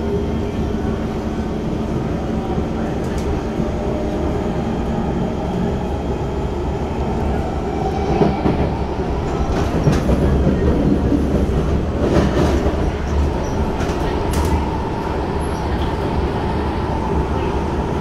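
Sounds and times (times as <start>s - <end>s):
train rolling rumble and hum: 0.0s - 18.0s.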